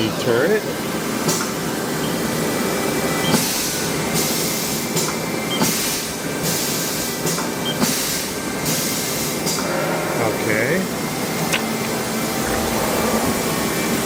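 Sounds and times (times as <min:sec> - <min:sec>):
lathe mechanical hum: 0:00.0 - 0:14.0.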